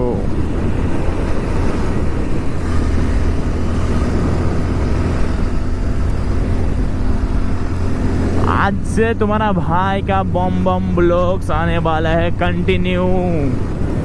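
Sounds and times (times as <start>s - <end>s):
motorcycle engine rumble: 0.0s - 14.0s
road noise: 0.0s - 14.0s.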